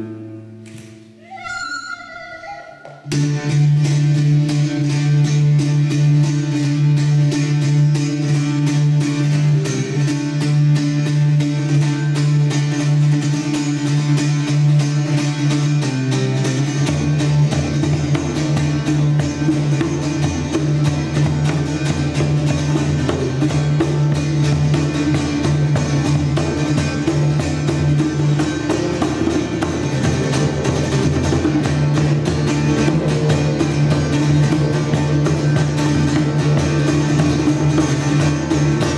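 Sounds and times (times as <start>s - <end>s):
plucked string instrument: 0.0s - 38.9s.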